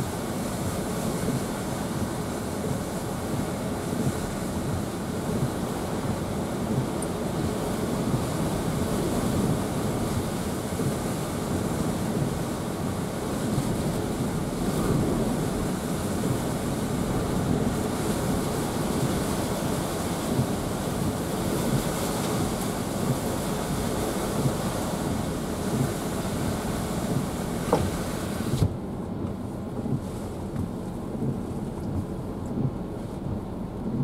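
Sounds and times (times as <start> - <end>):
wind and rain buffeting vehicle: 0.0 - 34.0.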